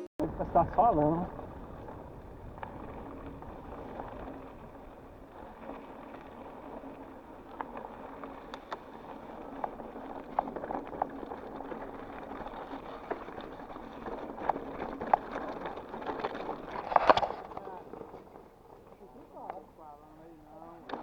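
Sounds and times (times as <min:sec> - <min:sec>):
bike clicks and rattles: 0:00.2 - 0:21.0
bike tyres on dirt trail: 0:00.2 - 0:21.0.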